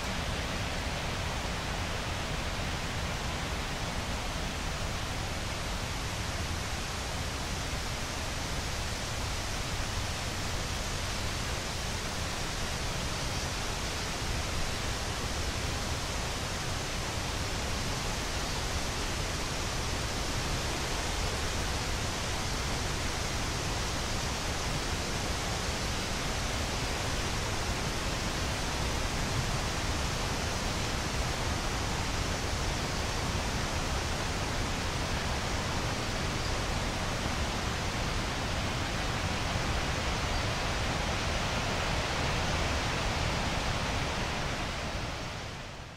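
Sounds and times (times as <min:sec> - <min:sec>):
wind rustling leaves: 0:00.0 - 0:45.9.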